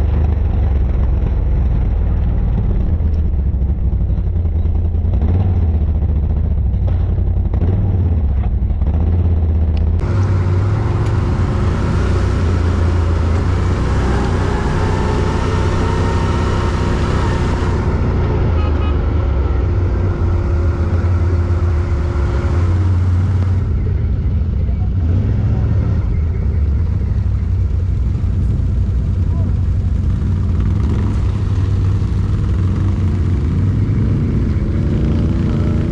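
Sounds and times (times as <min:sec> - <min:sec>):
quad bike engine running: 0:00.0 - 0:35.9.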